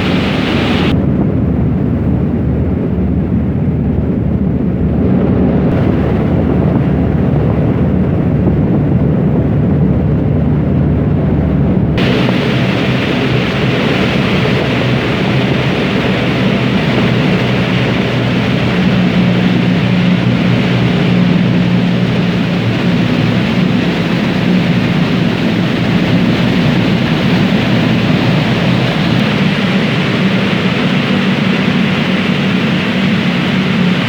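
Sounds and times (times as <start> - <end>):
ferry engines humming: 0.0 - 34.0
loud constant rushing noise: 0.0 - 34.0.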